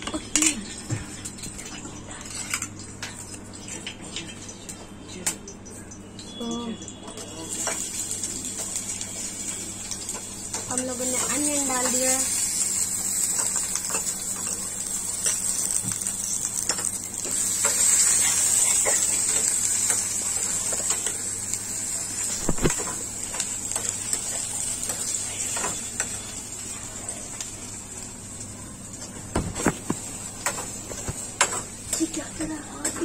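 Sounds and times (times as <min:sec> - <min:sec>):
onions sizzling in oil: 0:05.8 - 0:33.0.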